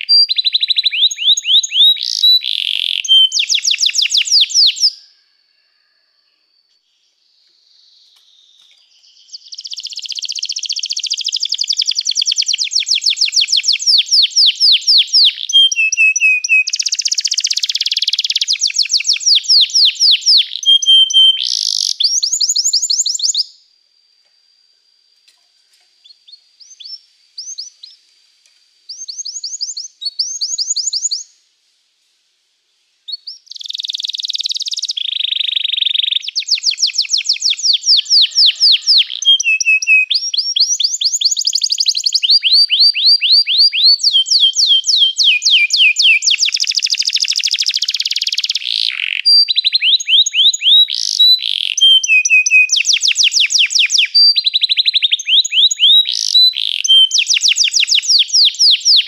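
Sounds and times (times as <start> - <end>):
canary singing trills: 0.0 - 5.2, 6.6 - 23.6, 26.0 - 28.1, 28.9 - 31.4, 33.1 - 59.0.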